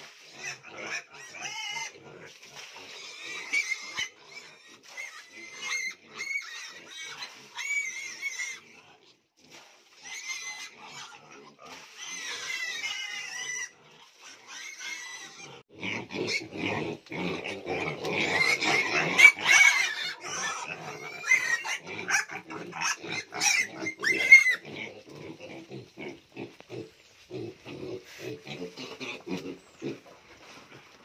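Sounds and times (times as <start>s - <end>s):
piglets squealing and grunting: 0.0s - 9.0s, 10.0s - 30.1s.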